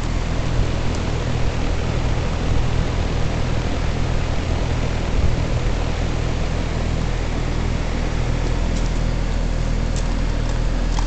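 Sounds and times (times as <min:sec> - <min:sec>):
heat pump low hum: 0:00.0 - 0:11.0
heat pump rushing noise: 0:00.0 - 0:11.0.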